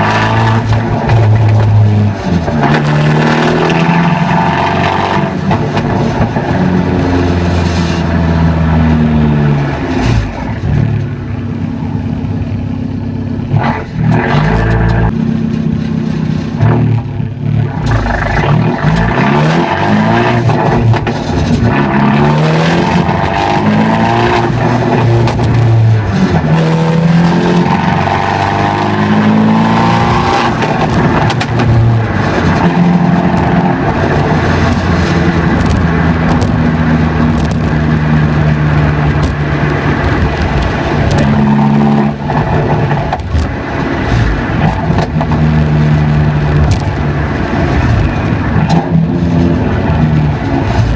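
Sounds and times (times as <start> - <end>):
car engine with deep exhaust note: 0.0 - 50.9.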